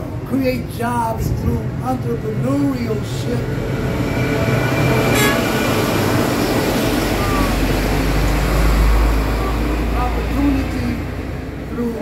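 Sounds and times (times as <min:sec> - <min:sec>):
deep engine rumble: 0:00.0 - 0:12.0
vehicle engine and road noise: 0:00.0 - 0:12.0.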